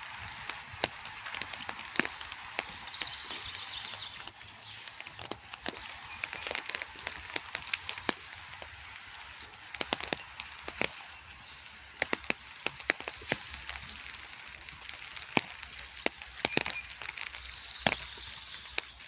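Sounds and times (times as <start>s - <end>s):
rain falling: 0.0s - 19.0s
raindrops striking close by: 0.0s - 19.0s.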